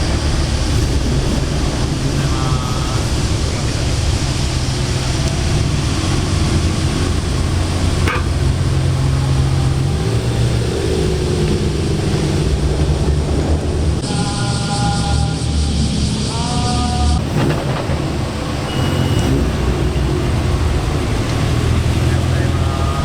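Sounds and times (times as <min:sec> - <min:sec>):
car exhaust rumbling: 0:00.0 - 0:14.4, 0:15.0 - 0:23.0.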